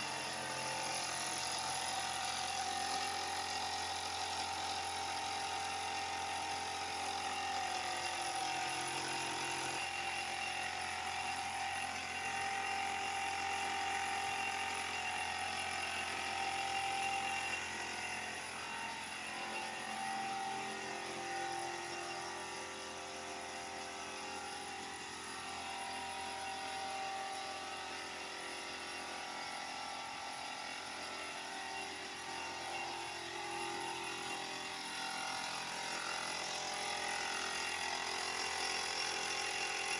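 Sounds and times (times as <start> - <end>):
electric air compressor humming: 0.0 - 39.9.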